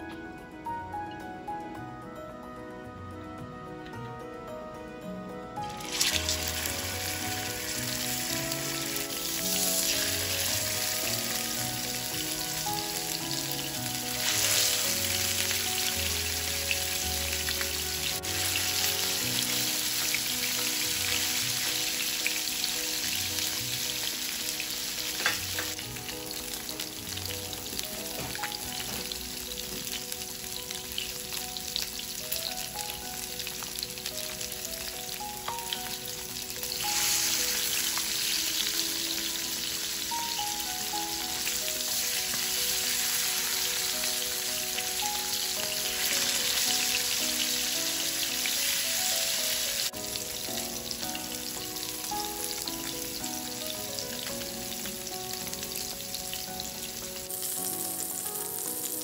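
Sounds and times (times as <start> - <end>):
fish fillets sizzling in oil: 5.6 - 59.0.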